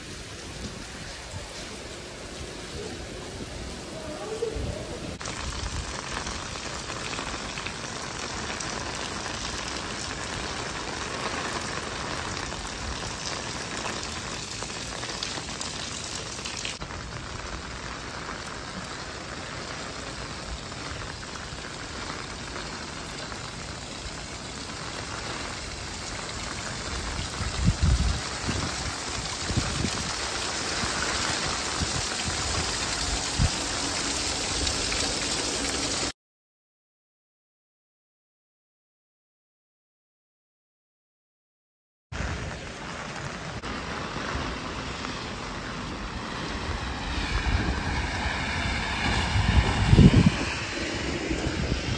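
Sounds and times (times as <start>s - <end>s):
heavy rain on stone paving: 0.0s - 36.2s, 42.2s - 51.9s.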